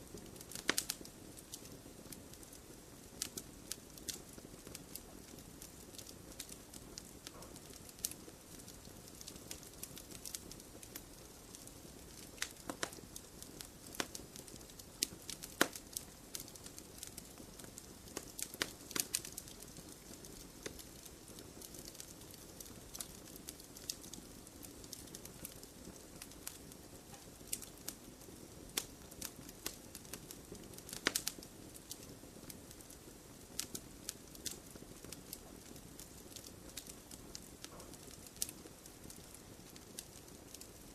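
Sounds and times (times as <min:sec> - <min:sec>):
campfire crackling: 0:00.0 - 0:40.9
fire hissing: 0:00.0 - 0:40.9.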